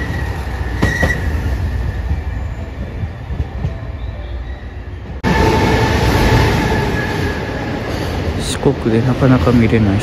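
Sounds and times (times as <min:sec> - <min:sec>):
train engines and wheels rumbling: 0:00.0 - 0:10.0.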